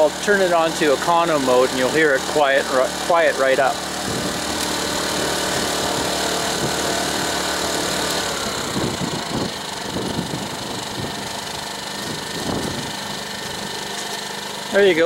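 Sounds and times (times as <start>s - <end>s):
generator running: 0.0s - 15.0s.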